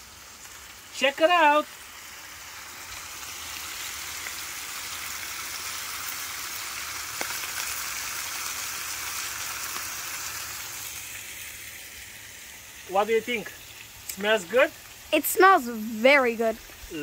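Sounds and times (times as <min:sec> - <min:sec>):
meat sizzling in griddle pans: 0:00.0 - 0:17.0.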